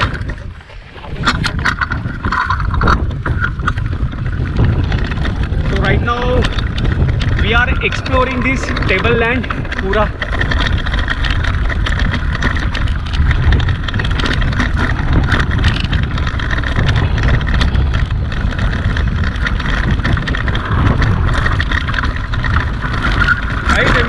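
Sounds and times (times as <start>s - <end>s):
bike rattling on stony trail: 0.0s - 24.0s
wind rushing over microphone: 0.0s - 24.0s.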